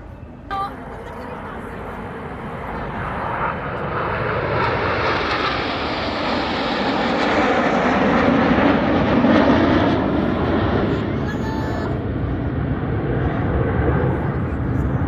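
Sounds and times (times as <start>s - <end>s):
jets flying past: 1.3s - 15.0s.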